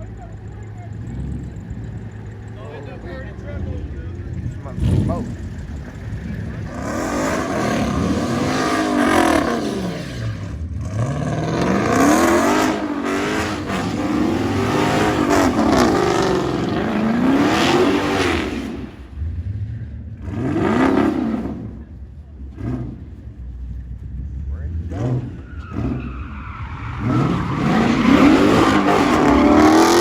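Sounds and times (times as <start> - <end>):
car engine revving hard: 0.8 - 23.3, 24.5 - 30.0.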